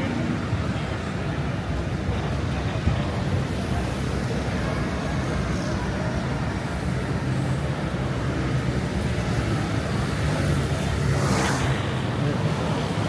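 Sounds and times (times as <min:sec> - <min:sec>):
vehicles passing: 0:00.0 - 0:13.0.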